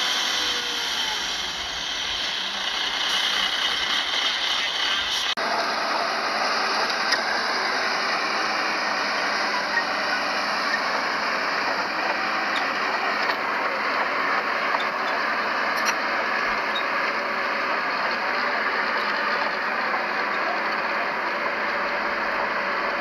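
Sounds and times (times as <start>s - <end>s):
heavy machinery engine din: 0.0s - 23.0s.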